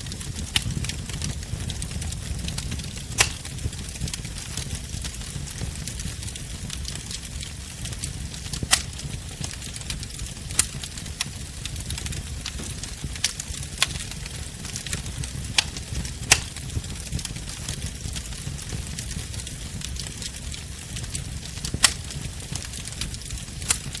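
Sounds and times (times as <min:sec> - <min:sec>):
bonfire rumble and hiss: 0:00.0 - 0:24.0
fire crackles and pops: 0:00.0 - 0:24.0.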